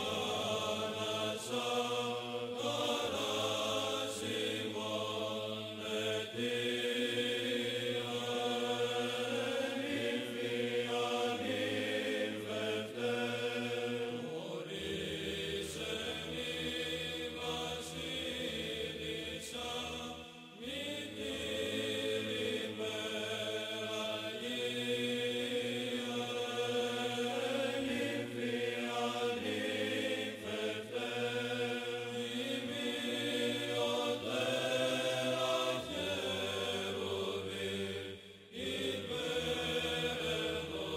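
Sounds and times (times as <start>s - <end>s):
voices chanting slow melody: 0.0s - 40.9s.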